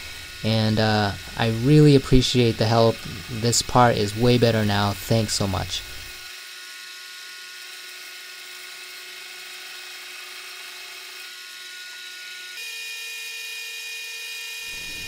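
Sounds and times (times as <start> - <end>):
lathe cutting metal whine: 0.0 - 15.0.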